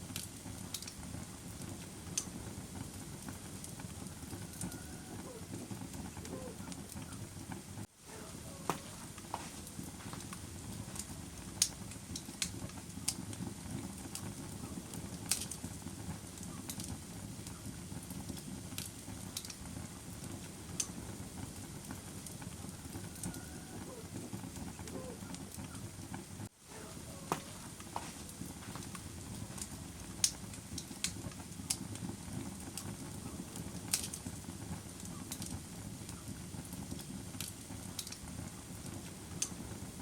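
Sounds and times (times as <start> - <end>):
campfire flames rushing: 0.0 - 40.0
wood crackling and popping: 0.0 - 40.0.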